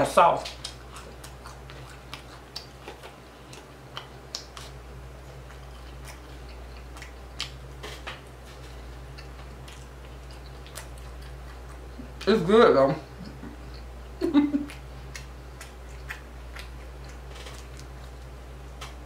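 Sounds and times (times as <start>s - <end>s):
steady low hum: 0.0s - 19.0s
person chewing wetly: 0.4s - 12.3s, 13.0s - 19.0s.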